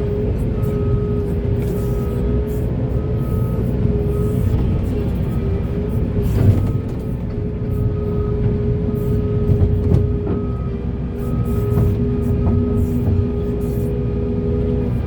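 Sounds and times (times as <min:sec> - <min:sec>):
diesel engine rumble: 0:00.0 - 0:15.0
hydraulic whine: 0:00.0 - 0:15.0.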